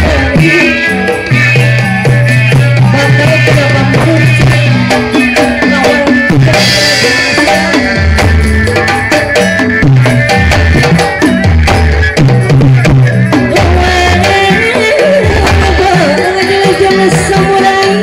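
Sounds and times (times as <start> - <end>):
gamelan music: 0.0 - 18.0
gong and metallophone tones: 0.0 - 18.0.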